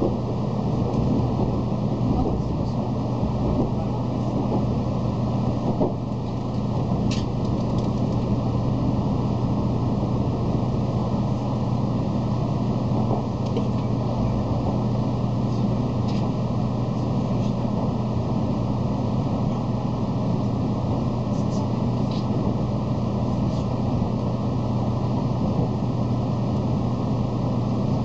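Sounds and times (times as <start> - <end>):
train cabin rumble and hum: 0.0 - 28.0.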